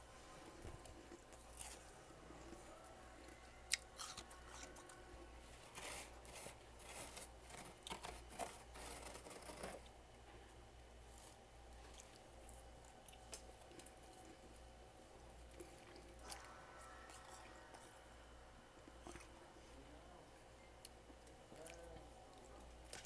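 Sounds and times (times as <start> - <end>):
frost crunching being chewed: 0.8 - 10.0, 11.0 - 18.1, 18.8 - 19.4, 20.8 - 23.0.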